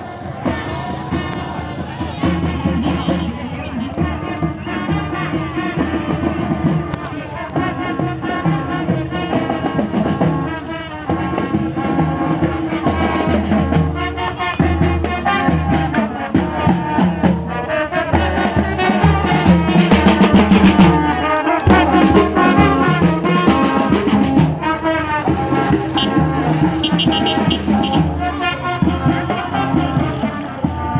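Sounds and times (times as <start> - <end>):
brass band playing: 0.0 - 30.9
marching drums: 0.0 - 30.9.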